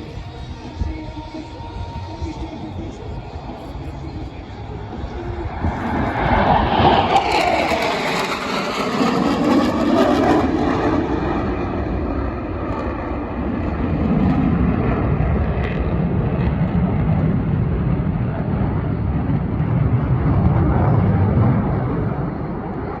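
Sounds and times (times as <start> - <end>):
jet flying past: 0.0 - 23.0.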